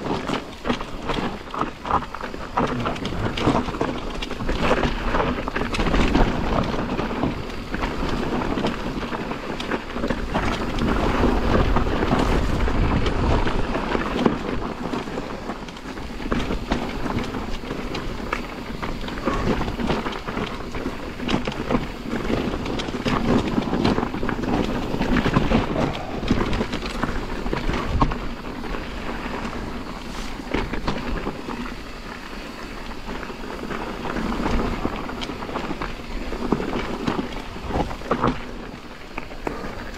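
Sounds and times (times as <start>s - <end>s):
bike rattling: 0.0s - 39.9s
tyres on loose ground: 0.0s - 39.9s
wind rushing over microphone: 0.0s - 39.9s.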